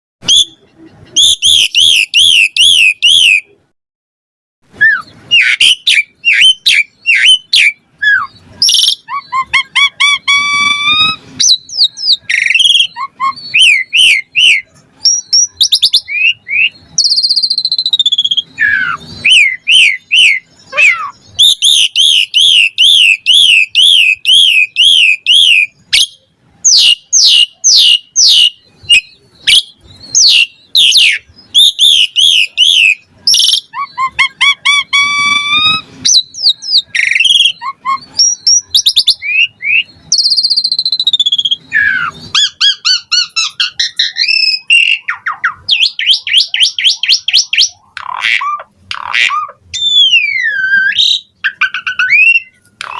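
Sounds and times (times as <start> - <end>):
starling singing whistles and chatter: 0.2 - 3.6, 4.7 - 52.9.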